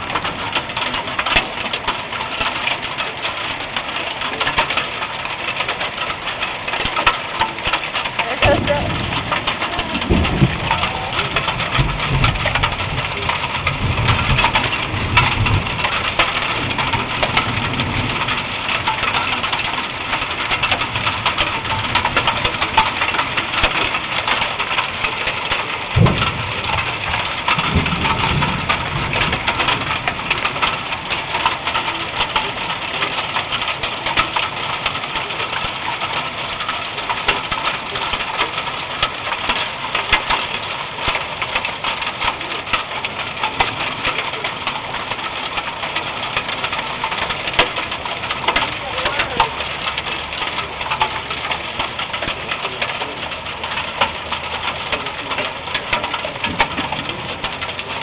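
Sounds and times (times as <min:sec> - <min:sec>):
hailstones clattering: 0:00.0 - 0:58.0.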